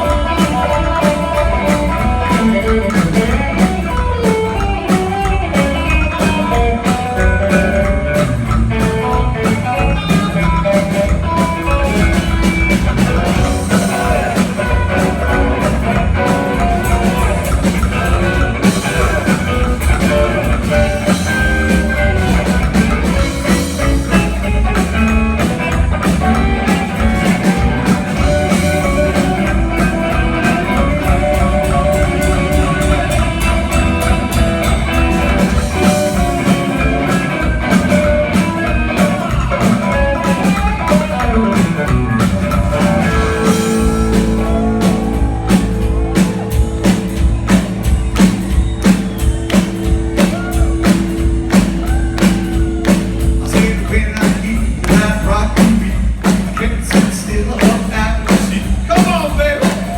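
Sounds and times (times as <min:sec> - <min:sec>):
drums: 0:00.0 - 0:59.9
electric guitar: 0:00.0 - 0:59.9
upright bass: 0:00.0 - 0:59.9.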